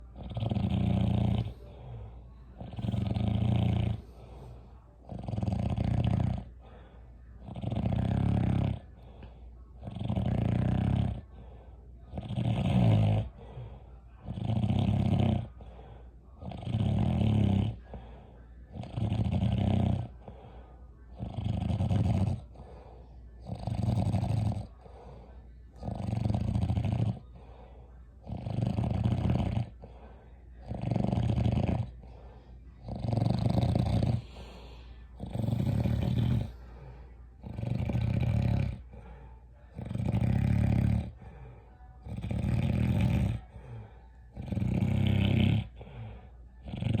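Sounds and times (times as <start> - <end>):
rhythmic snoring: 0.0 - 47.0.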